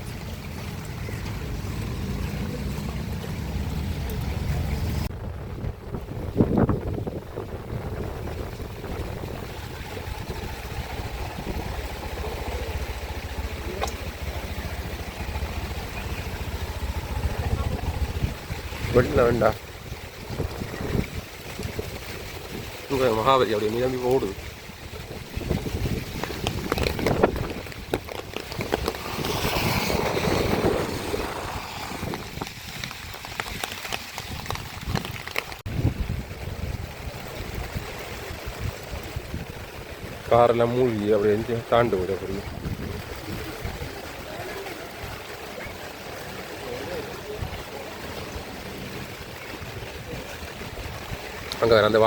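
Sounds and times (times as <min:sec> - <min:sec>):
wind buffeting microphone: 0:00.0 - 0:52.0
river rushing: 0:06.3 - 0:52.0.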